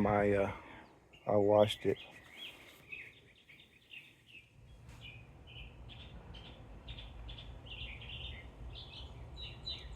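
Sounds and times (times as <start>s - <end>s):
small birds chirping: 0.0s - 9.9s.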